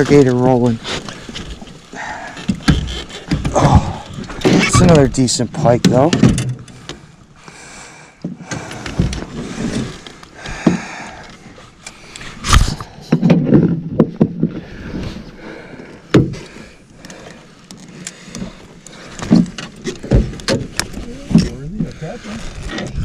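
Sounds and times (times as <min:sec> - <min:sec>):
knocks and thumps on a boat: 0:00.0 - 0:07.1, 0:08.2 - 0:11.2, 0:12.4 - 0:23.0.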